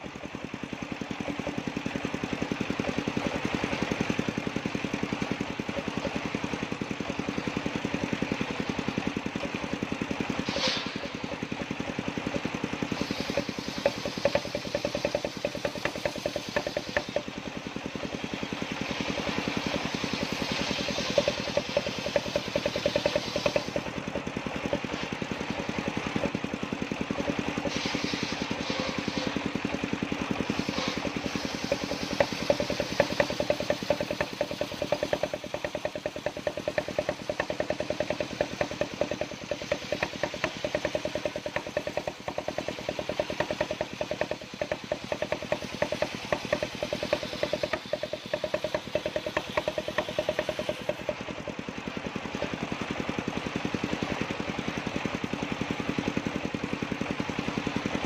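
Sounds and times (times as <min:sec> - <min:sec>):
engine running with rapid pulse: 0:00.0 - 0:58.0.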